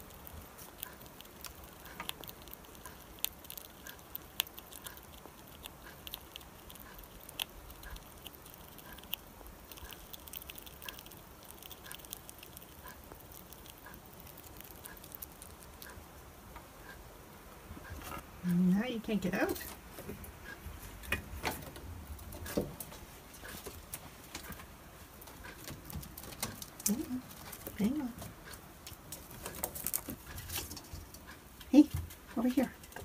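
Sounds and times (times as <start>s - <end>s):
squirrel chewing a nut: 0.0s - 33.0s.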